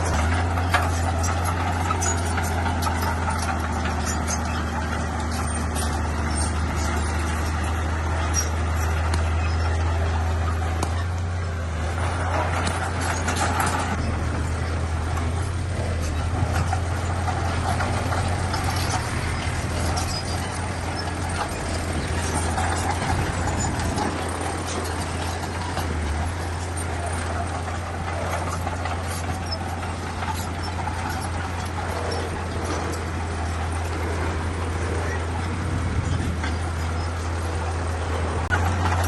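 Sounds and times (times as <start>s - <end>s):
bulldozer diesel engine droning: 0.0s - 39.0s
clanks from tracks and stone: 0.0s - 39.0s.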